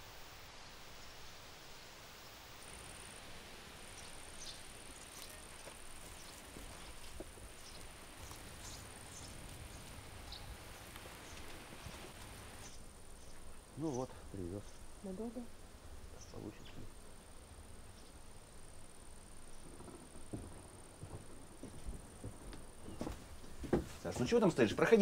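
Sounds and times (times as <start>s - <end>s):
insect trilling: 0.8s - 23.1s.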